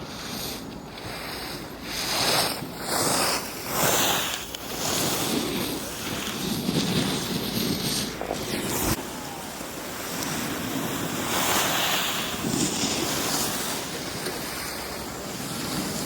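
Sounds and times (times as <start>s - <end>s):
skis hissing on snow: 0.0s - 16.0s
wind rushing over microphone: 0.0s - 16.0s.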